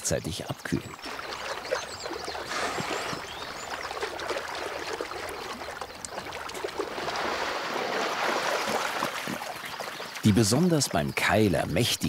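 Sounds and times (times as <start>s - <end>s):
water sloshing and splashing: 0.8s - 11.4s.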